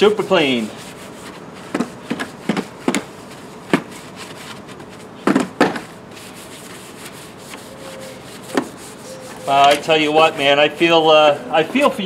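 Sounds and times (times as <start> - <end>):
hand brush scrubbing: 0.0 - 5.2, 6.1 - 11.0.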